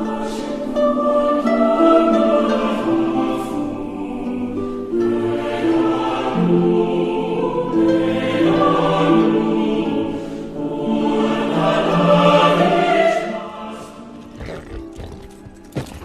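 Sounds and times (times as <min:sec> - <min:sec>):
choir singing long notes: 0:00.0 - 0:14.9
orchestral film score: 0:00.0 - 0:16.0.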